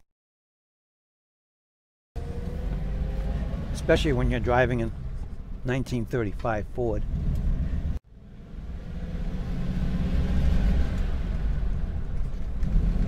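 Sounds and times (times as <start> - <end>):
car engine and road rumble: 2.2 - 13.0.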